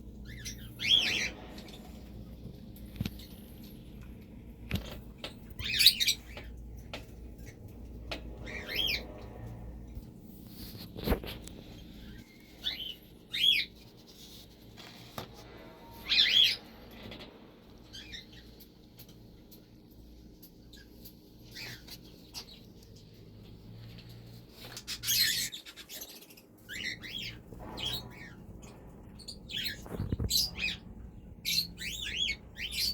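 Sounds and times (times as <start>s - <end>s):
birds chirping: 0.0s - 10.2s, 11.0s - 14.5s, 15.5s - 32.9s.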